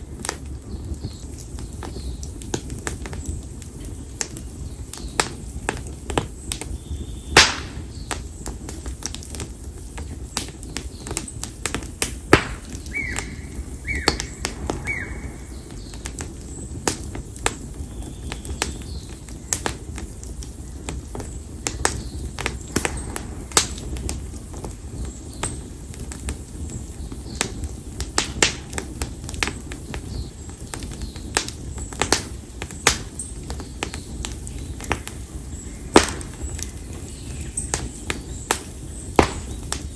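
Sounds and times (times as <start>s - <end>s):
campfire crackling and popping: 0.0s - 39.9s
flames rumbling: 0.0s - 39.9s.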